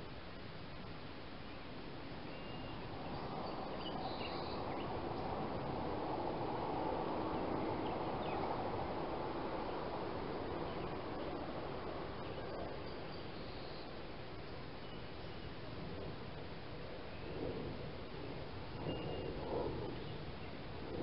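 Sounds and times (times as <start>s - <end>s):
steady outdoor rushing noise: 1.7s - 21.0s.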